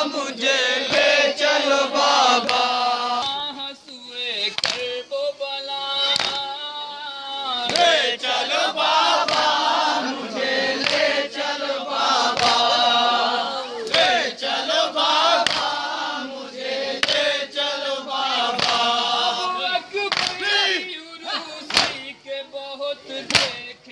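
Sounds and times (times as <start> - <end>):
men chanting a lament: 0.0 - 23.9.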